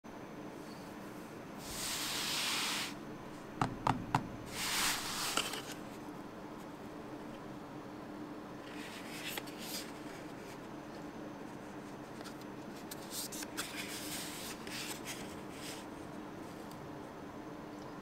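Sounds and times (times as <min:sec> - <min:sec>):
faint steady hum: 0:00.1 - 0:18.0.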